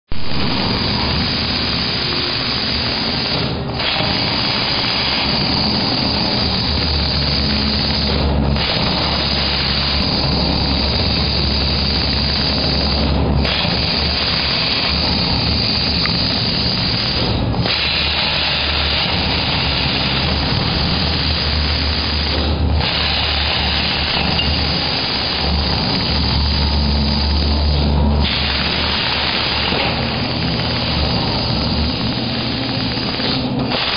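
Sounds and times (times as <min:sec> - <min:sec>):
plasma cutter hissing: 0:00.1 - 0:33.9.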